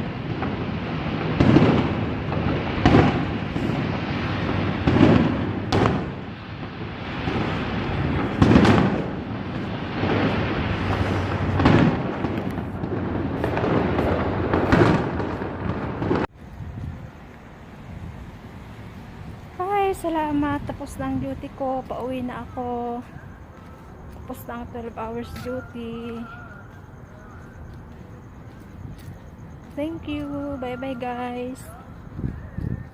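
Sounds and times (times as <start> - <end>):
fireworks booming: 0.0 - 32.9.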